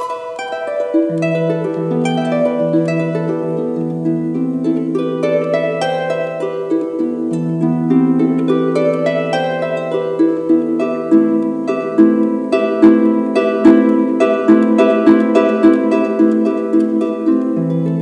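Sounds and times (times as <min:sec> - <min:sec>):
harp plucked notes: 0:00.0 - 0:18.0.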